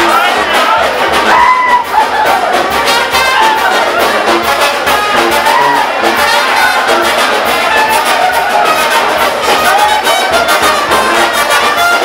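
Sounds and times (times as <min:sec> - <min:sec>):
brass band playing dance music: 0:00.0 - 0:12.0.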